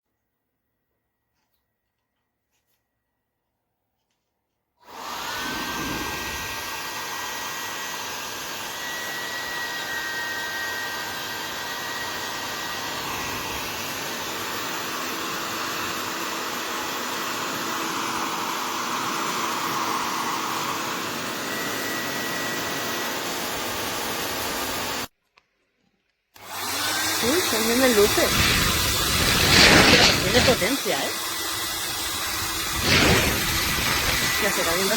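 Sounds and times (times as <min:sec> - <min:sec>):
hair dryer running: 0:04.8 - 0:25.1, 0:26.4 - 0:34.9.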